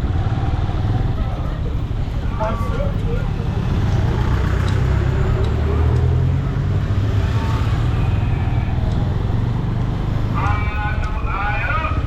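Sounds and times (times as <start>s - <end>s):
motorcycle engine rumble: 0.0s - 12.0s
wind: 0.0s - 12.0s.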